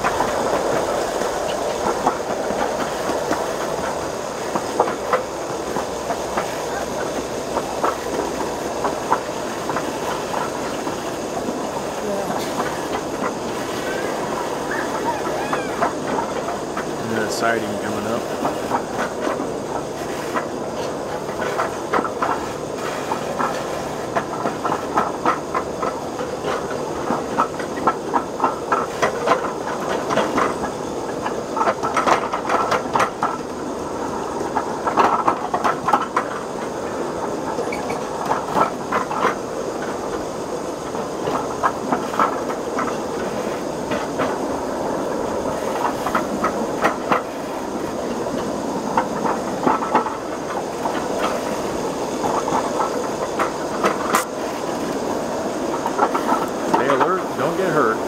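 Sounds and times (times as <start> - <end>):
clickety-clack at rail joints: 0.0 - 58.0
miniature train wheels rumbling: 0.0 - 58.0.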